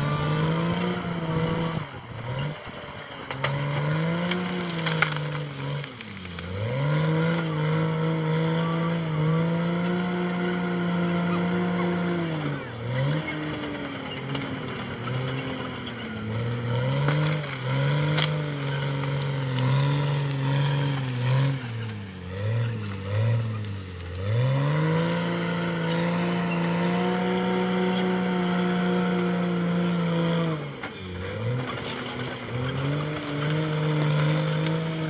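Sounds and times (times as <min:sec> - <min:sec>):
bulldozer diesel engine lugging: 0:00.0 - 0:35.0.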